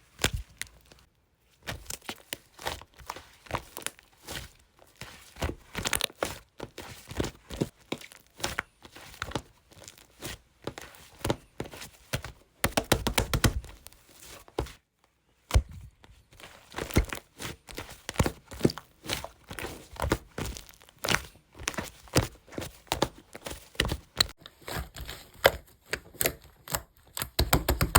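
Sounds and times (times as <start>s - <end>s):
hands squishing slime: 0.0s - 14.8s, 15.4s - 27.9s.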